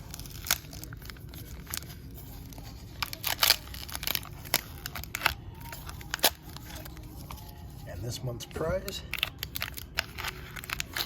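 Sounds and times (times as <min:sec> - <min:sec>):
packaging crinkling and tearing: 0:00.0 - 0:07.8, 0:09.0 - 0:11.0.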